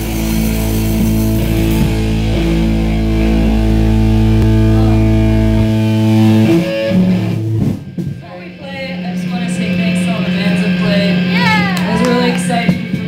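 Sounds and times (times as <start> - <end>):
bass guitar: 0.0 - 13.0
distorted electric guitar chord: 0.0 - 13.0.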